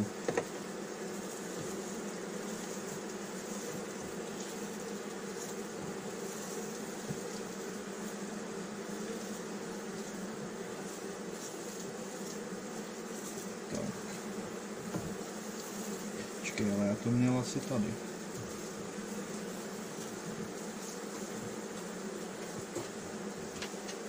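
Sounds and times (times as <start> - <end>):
honeybee colony buzzing: 0.0 - 24.0.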